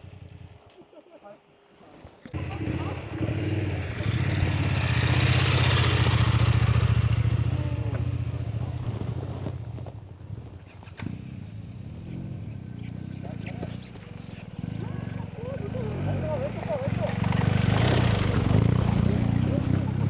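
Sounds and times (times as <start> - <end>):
motorcycle engine pulling: 1.8 - 20.0.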